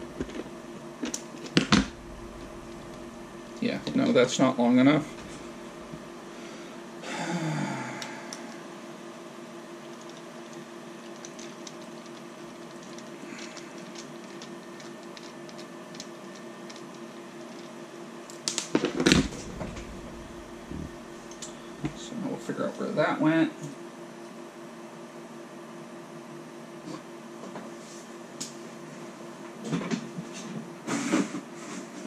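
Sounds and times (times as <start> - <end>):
steady low hum: 0.0 - 27.4.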